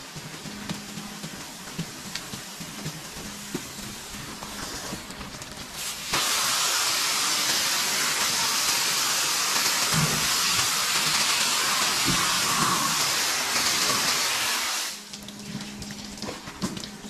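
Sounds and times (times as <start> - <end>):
water hose spraying: 0.0 - 17.0.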